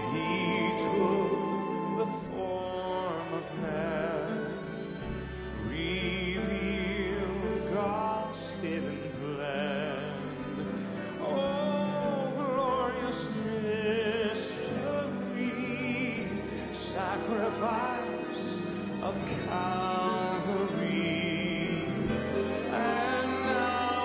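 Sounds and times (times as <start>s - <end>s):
man singing with vibrato: 0.0s - 24.0s
orchestral accompaniment: 0.0s - 24.0s.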